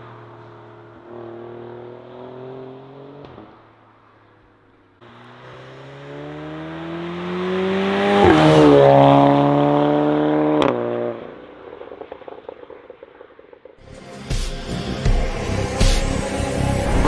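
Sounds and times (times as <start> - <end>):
car engine accelerating: 0.0 - 13.4, 14.6 - 17.0.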